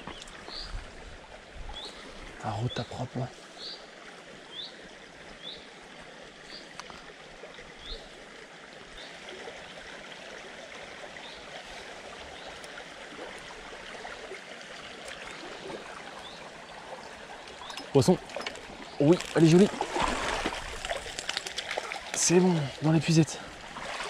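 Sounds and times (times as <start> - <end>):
stream water running: 0.0 - 24.0.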